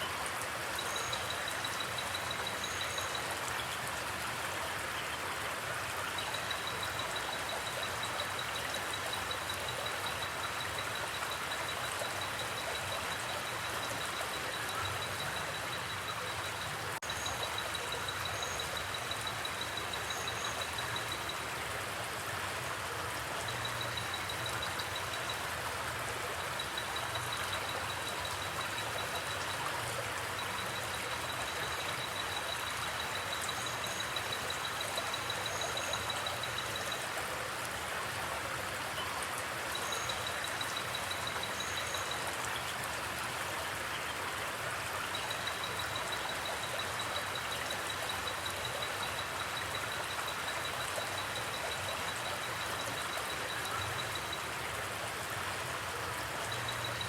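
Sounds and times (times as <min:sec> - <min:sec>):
creek water babbling: 0:00.0 - 0:57.0.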